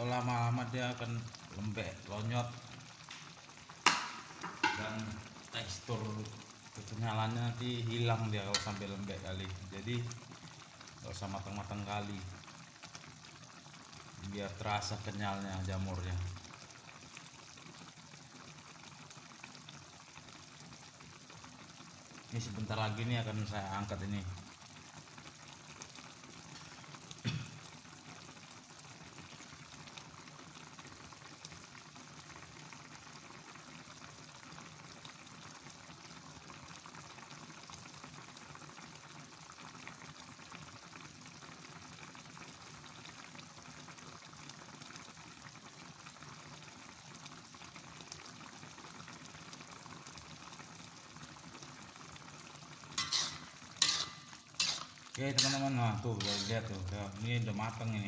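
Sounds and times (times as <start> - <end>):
mushrooms simmering in a pan: 0.0 - 58.0.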